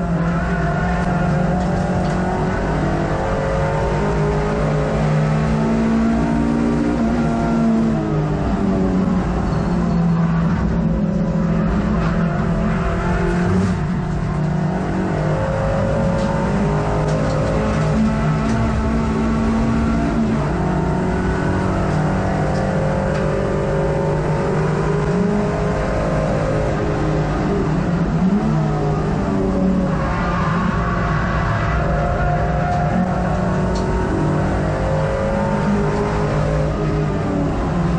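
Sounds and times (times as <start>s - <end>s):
racing car engine revving: 0.0s - 37.9s.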